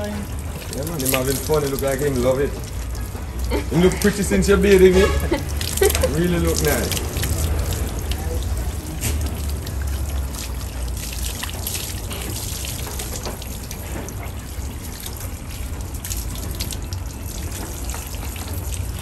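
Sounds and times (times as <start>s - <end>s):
hose water splattering: 0.0s - 19.0s
water trickling onto mud: 0.0s - 19.0s.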